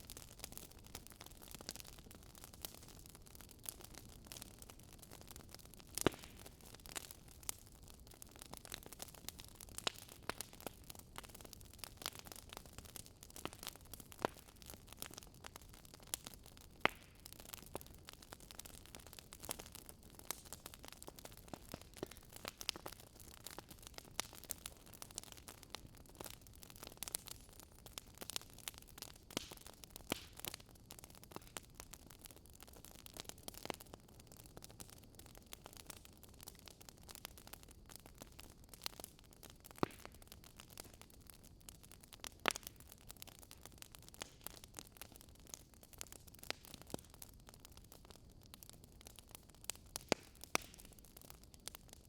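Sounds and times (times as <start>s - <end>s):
wood fire crackling softly: 0.0s - 52.0s.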